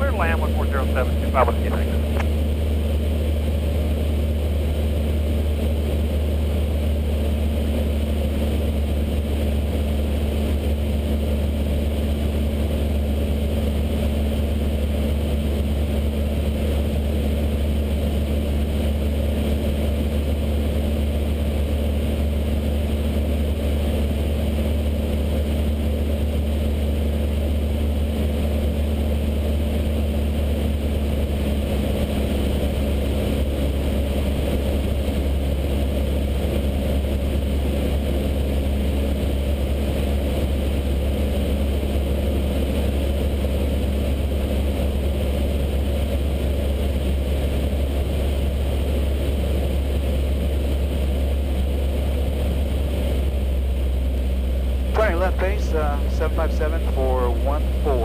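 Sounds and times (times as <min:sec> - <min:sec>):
airplane engine droning in cabin: 0:00.0 - 0:58.0.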